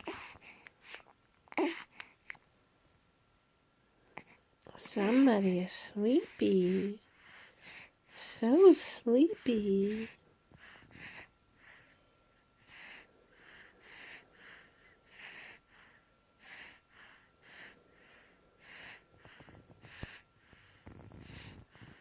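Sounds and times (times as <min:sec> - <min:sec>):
baby breathing heavily: 0:00.0 - 0:02.4, 0:04.2 - 0:08.0, 0:09.3 - 0:12.0, 0:12.6 - 0:22.0.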